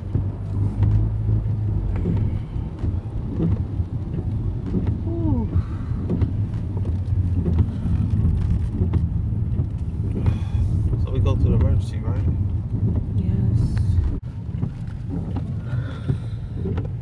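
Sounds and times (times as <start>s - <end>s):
car rumble inside cabin: 0.0s - 17.0s.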